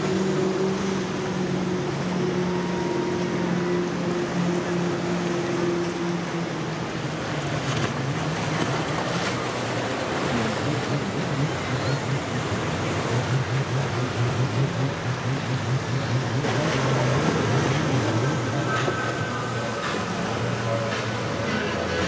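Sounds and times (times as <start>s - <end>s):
powerboat engines running: 0.0s - 22.0s
waves: 0.0s - 22.0s
wind: 0.0s - 22.0s.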